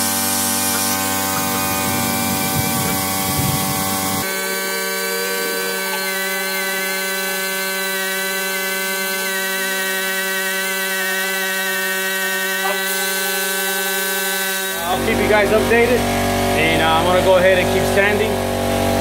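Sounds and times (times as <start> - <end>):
pneumatic sander whining: 0.0 - 19.0.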